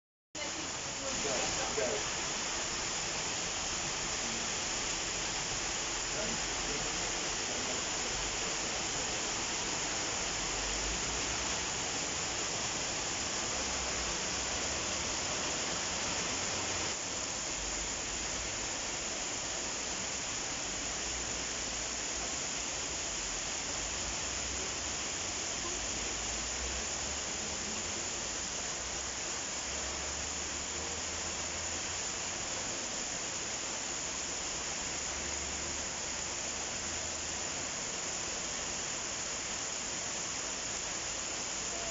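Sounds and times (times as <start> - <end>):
steady rain falling: 0.4 - 41.9.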